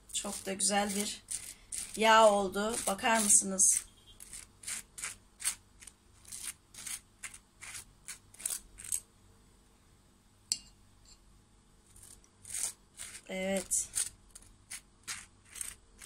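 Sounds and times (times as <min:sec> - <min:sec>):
knife scraping butter on toast: 0:00.1 - 0:09.0, 0:11.9 - 0:16.0.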